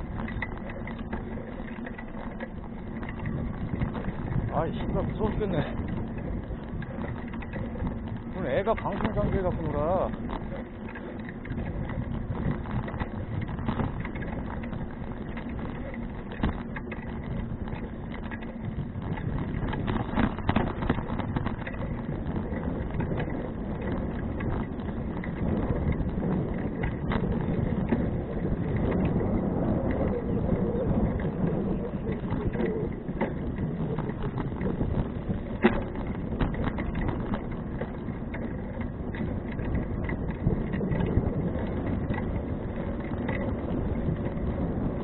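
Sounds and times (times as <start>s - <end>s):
bicycle clicks and rattles: 0.0s - 45.0s
bicycle tyre and wind rumble: 0.0s - 45.0s.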